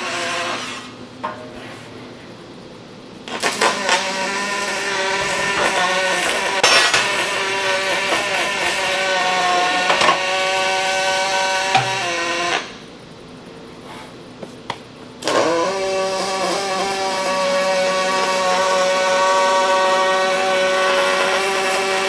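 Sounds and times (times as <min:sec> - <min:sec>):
welding arc buzzing: 0:00.0 - 0:13.5, 0:15.2 - 0:22.0.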